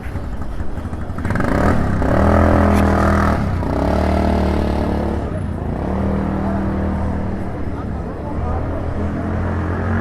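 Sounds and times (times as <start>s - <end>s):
car engines passing: 0.0s - 10.0s.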